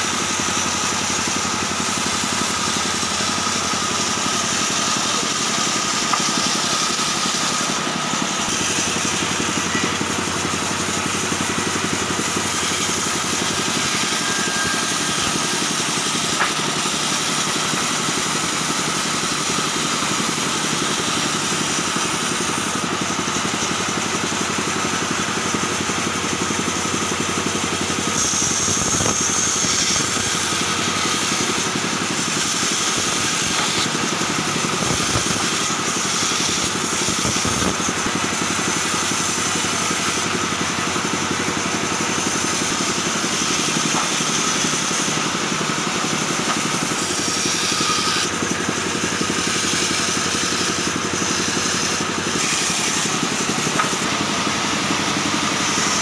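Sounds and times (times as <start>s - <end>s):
band saw cutting timber: 0.0s - 56.0s.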